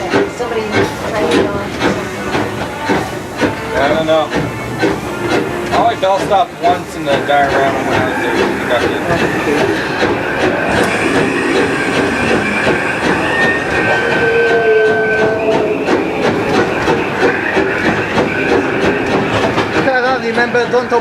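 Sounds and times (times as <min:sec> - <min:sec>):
steam locomotive running: 0:00.0 - 0:21.0.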